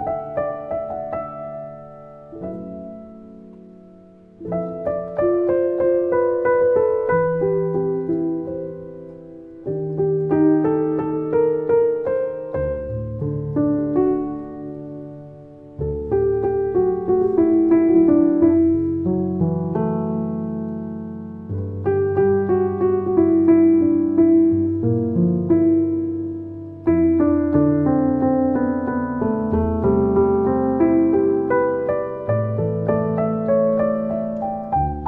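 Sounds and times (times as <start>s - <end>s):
felt piano chords with melody: 0.0s - 35.0s.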